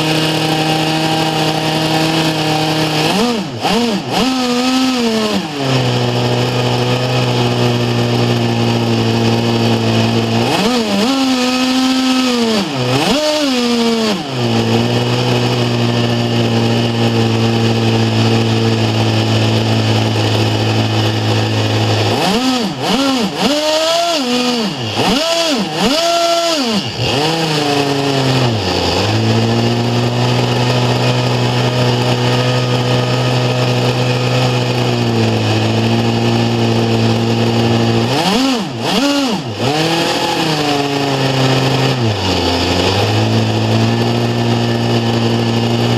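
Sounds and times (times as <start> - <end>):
model engine running high-pitched: 0.0 - 45.9.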